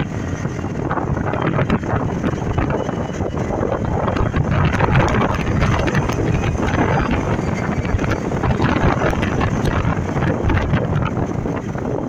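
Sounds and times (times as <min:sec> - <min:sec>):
truck engine and road rumble: 0:00.0 - 0:12.0
wind buffeting microphone: 0:00.0 - 0:12.0.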